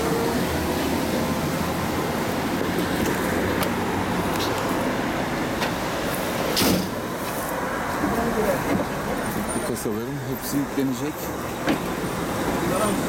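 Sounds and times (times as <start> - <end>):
road traffic and engine noise: 0.0 - 13.0.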